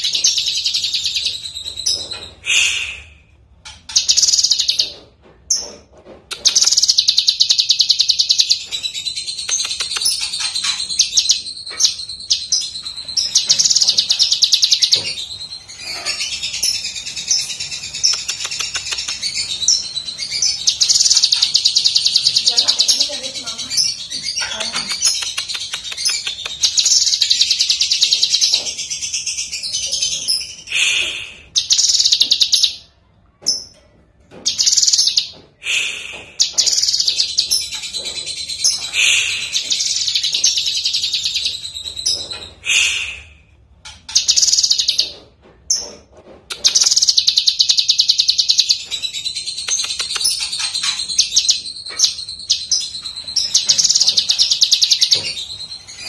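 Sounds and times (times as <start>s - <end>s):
bird trilling and chattering: 0.0s - 32.9s, 33.5s - 56.0s.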